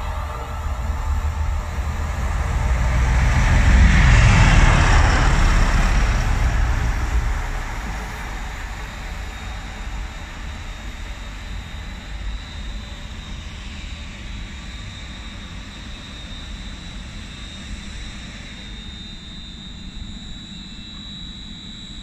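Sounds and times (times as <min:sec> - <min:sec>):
train passing with wheel noise: 0:00.0 - 0:20.6.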